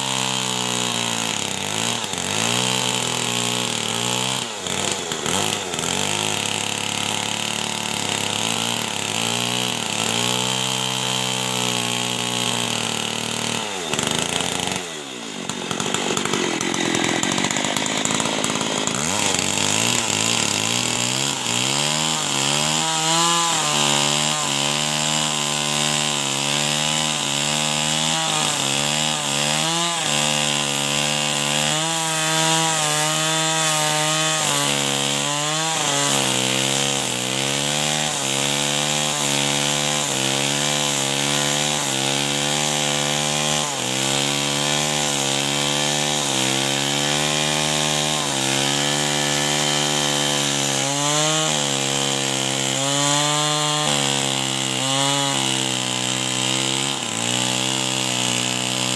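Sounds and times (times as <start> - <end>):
chainsaw cutting wood: 0.0 - 58.9.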